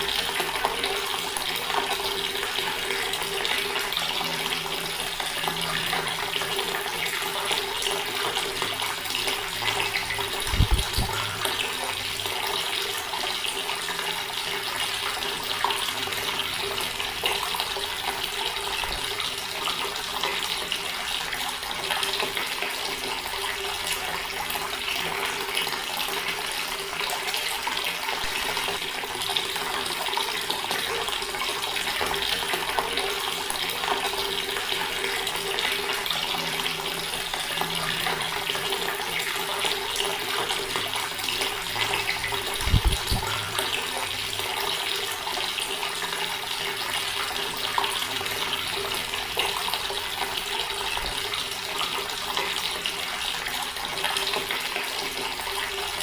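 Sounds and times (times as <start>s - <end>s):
tap water running and splashing: 0.0s - 56.0s.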